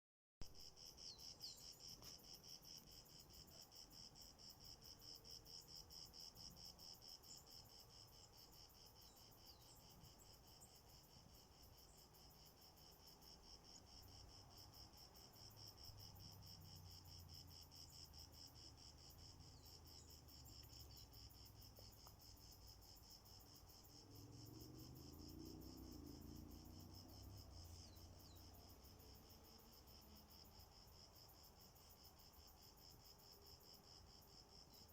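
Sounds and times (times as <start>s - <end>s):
crickets chirping: 0.4s - 34.9s.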